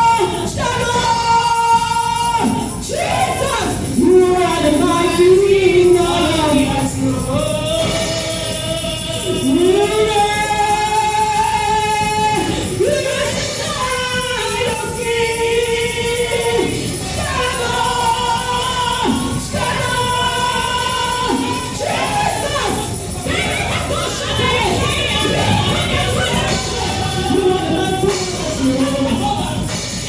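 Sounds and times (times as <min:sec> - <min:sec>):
gospel worship singing: 0:00.0 - 0:30.0
musical accompaniment: 0:00.0 - 0:30.0.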